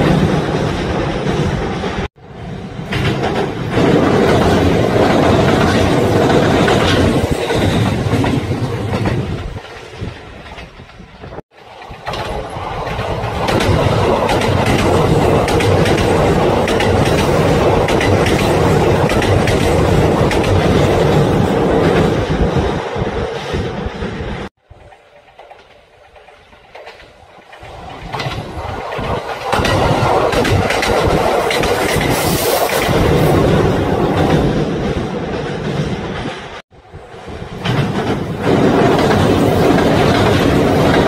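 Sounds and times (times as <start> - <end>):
train rumble: 0.0 - 41.0
train wheels clacking over rail joints: 2.8 - 22.3, 23.3 - 36.6, 37.3 - 41.0.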